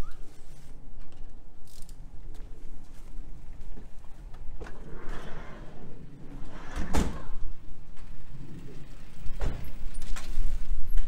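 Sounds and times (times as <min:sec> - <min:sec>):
steady low rumble: 0:00.8 - 0:11.0.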